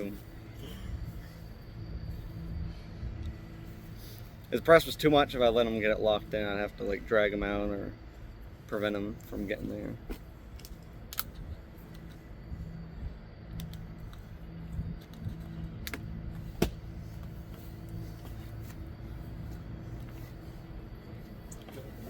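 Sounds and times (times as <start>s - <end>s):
faint hum: 0.0s - 22.0s
low wind rumble: 0.0s - 22.0s.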